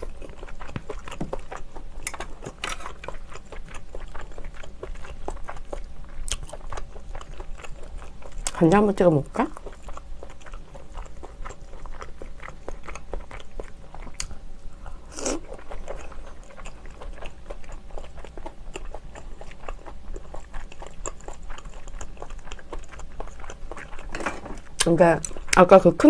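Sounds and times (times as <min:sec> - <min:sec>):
chewing mouth clicks and smacks: 0:00.0 - 0:08.6, 0:09.5 - 0:25.6.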